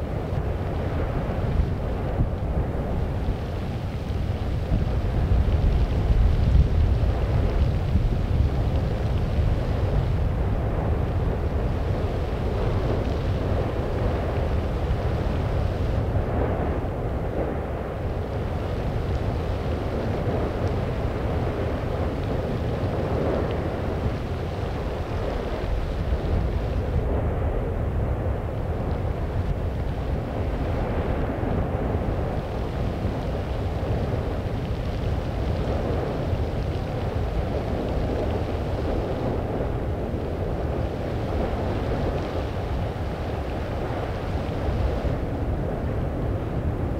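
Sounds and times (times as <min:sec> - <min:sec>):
volcano rumble and rushing: 0:00.0 - 0:46.9
wind buffeting microphone: 0:00.0 - 0:46.9.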